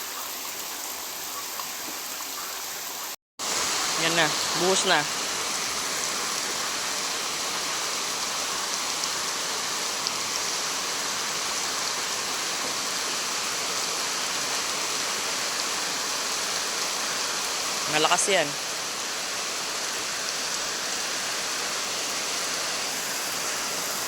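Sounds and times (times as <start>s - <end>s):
heavy rain downpour: 0.0s - 24.0s.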